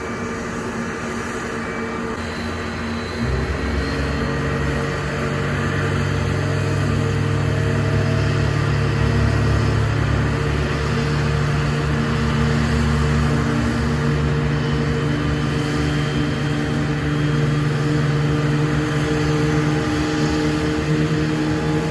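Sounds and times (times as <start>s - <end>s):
jet engines droning: 0.0s - 21.9s.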